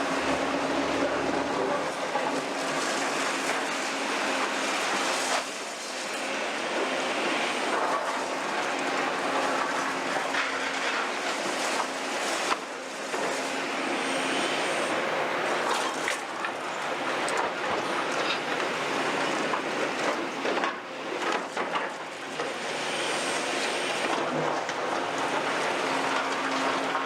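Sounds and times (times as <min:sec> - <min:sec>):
bucket working rubble: 0:00.0 - 0:27.0
excavator running: 0:00.0 - 0:27.0.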